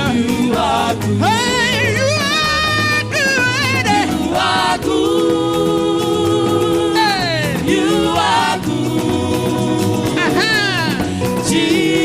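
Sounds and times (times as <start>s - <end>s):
gospel band playing: 0.0s - 12.0s
steady bass beat: 0.0s - 12.0s
voices singing: 0.0s - 12.0s.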